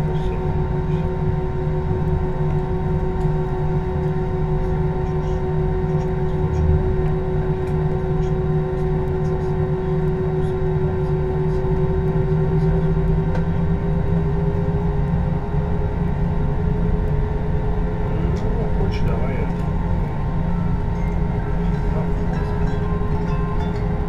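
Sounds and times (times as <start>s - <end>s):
jet engines idling: 0.0s - 24.0s.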